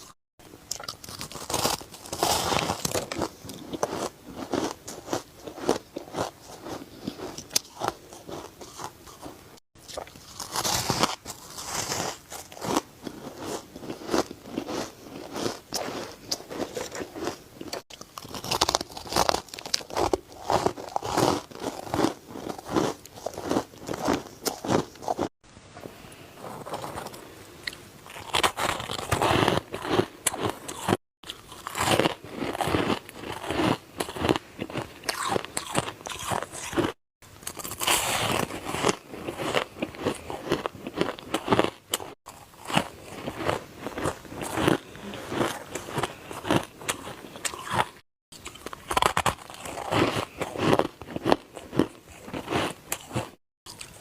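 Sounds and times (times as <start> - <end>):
ice crunching while chewed: 0.0 - 25.3, 26.4 - 54.0.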